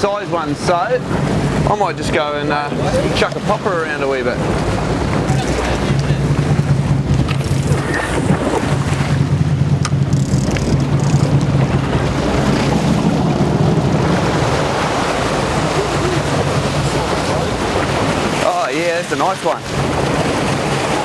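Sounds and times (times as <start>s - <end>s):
boat engine humming: 0.0s - 21.0s
sea washing along hull: 0.0s - 21.0s
wind buffeting microphone: 0.0s - 21.0s.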